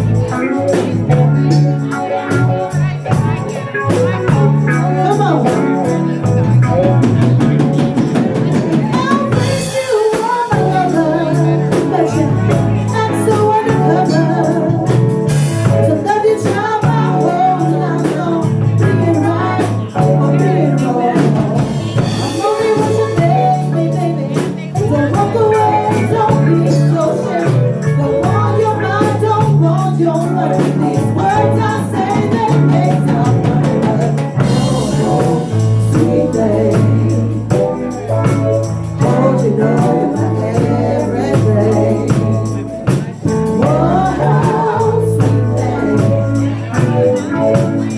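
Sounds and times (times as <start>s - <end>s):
bass notes: 0.0s - 9.9s, 10.5s - 47.9s
percussion strikes: 0.0s - 47.9s
person singing: 0.0s - 47.9s
regular drum beat: 0.0s - 47.9s.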